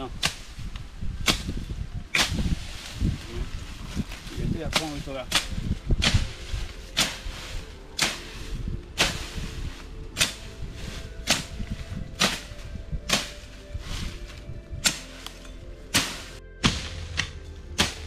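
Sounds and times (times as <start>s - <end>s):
machete chopping through grass: 0.2s - 3.2s, 3.9s - 18.0s.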